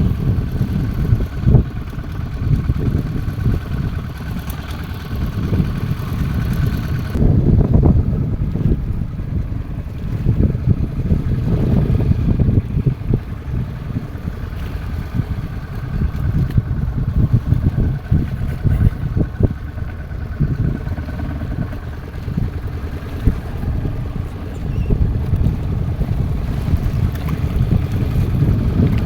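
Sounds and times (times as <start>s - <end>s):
boat engine running: 0.0s - 29.0s
wind buffeting microphone: 0.0s - 29.0s.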